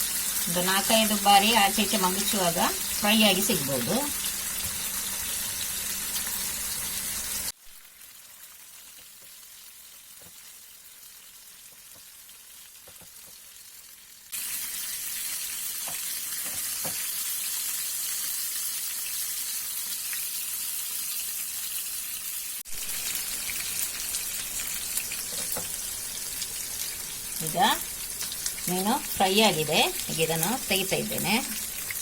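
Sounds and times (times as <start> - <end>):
fish sizzling in hot oil: 0.0 - 32.0.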